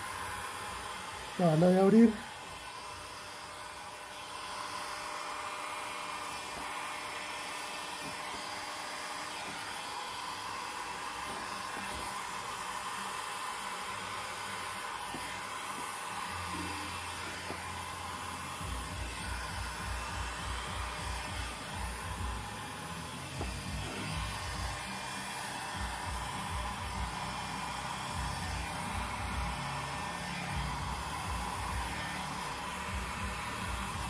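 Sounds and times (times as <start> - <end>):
heat gun blowing hot air: 0.0 - 34.0.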